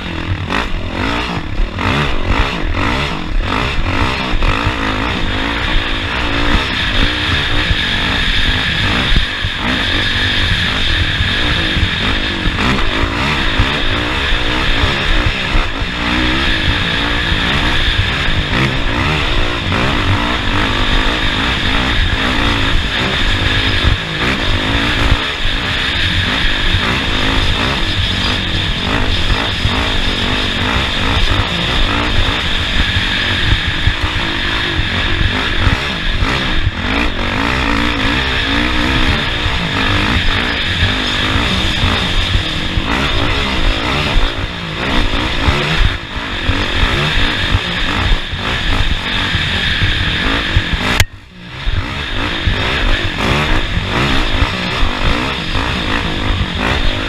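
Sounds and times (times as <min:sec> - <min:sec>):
off-road vehicle engine revving: 0:00.0 - 0:57.0
rough-ground and wind noise: 0:00.0 - 0:57.0.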